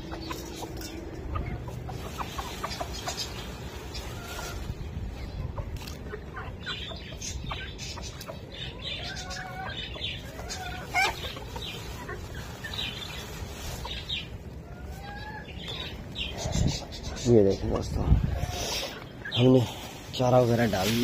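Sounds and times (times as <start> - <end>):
birds chirping: 0.0 - 21.0
hens clucking: 0.0 - 21.0.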